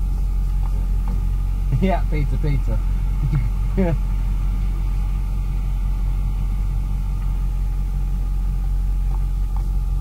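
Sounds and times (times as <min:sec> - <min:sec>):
bulldozer diesel engine rumbling: 0:00.0 - 0:10.0.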